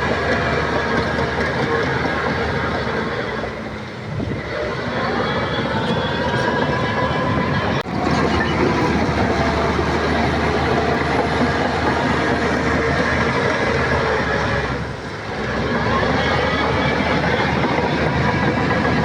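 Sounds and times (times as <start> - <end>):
bulldozer engine drone: 0.0 - 19.0
steel tracks rattling: 0.0 - 19.0.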